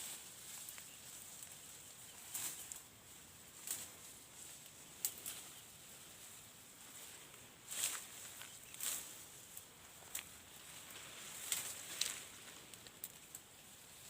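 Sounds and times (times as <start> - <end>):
crackles and rustles in dry leaves: 0.0 - 14.0
faint steady high hiss: 0.0 - 14.0.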